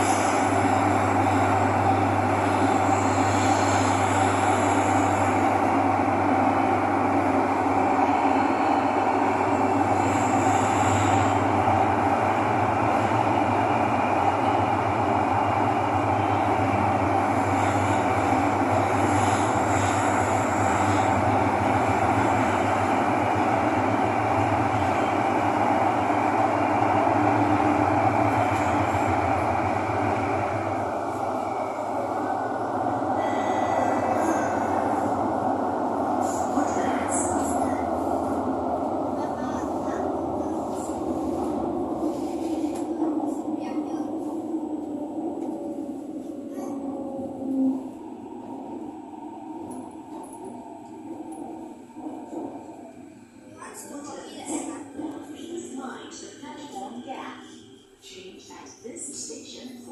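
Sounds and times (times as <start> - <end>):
metro train rolling rumble: 0.0 - 59.9.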